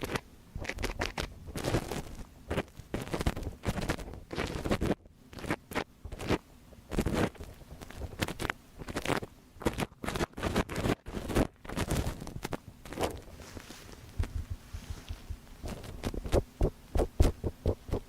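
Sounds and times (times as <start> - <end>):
scratchy rubbing on microphone: 0.0 - 18.0.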